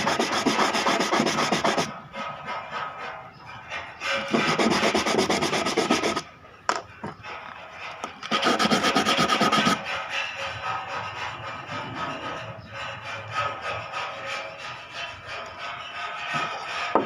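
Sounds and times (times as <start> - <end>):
brush scraping on sandpaper: 0.0 - 6.3, 7.2 - 17.0.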